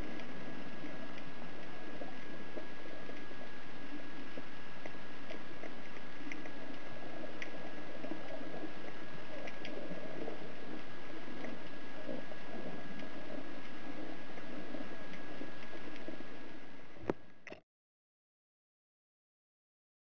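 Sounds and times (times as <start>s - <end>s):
muffled underwater rush: 0.0s - 17.4s.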